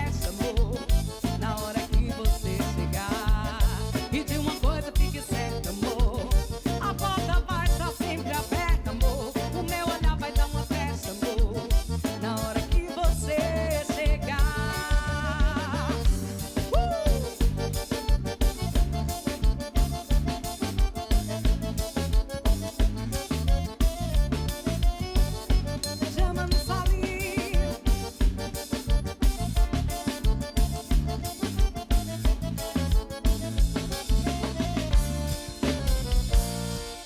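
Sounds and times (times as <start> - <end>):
band music with driving beat: 0.0 - 37.0.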